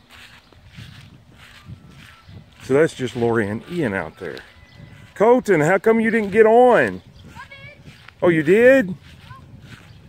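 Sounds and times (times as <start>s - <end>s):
footsteps on grass: 0.0s - 10.0s.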